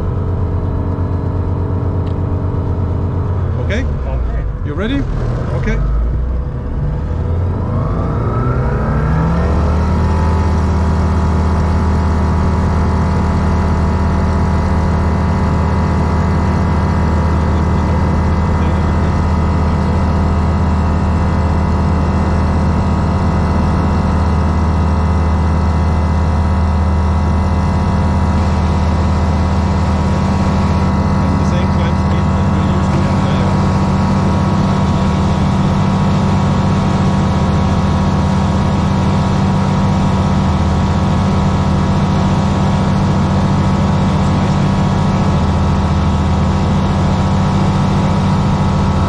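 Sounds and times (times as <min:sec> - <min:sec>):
light aircraft engine at full power: 0:00.0 - 0:49.0.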